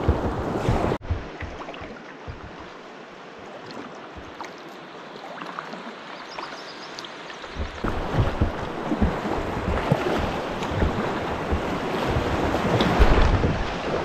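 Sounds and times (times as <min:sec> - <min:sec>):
paddle splashes and drips: 0:00.0 - 0:14.0.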